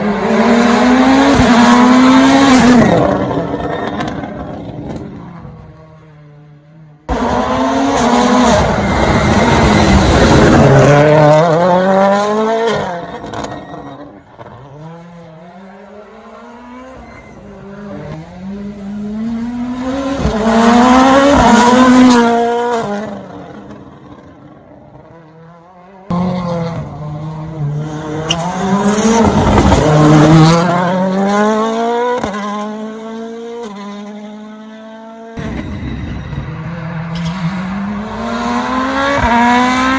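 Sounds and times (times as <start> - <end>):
rally car engine at full throttle: 0.0 - 39.9.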